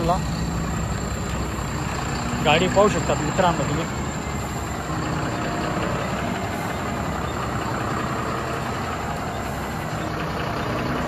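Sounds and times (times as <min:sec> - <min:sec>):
large vehicle engine running: 0:00.0 - 0:11.0.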